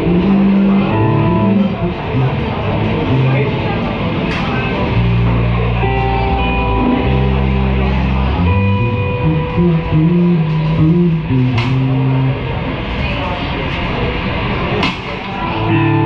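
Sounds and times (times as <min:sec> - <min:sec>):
electric guitar: 0:00.0 - 0:13.0, 0:15.3 - 0:16.0
bass guitar: 0:00.0 - 0:16.0.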